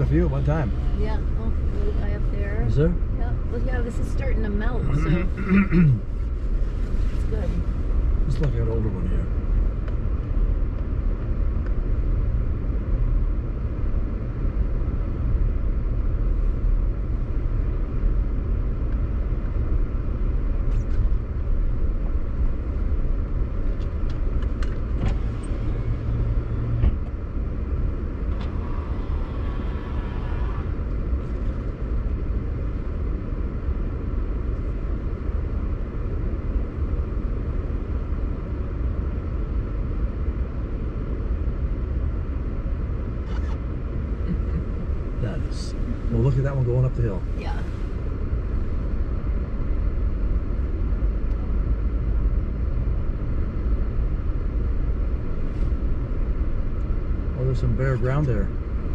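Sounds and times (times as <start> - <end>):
car engine rumble: 0.0 - 58.9
tyres on road: 0.0 - 58.9.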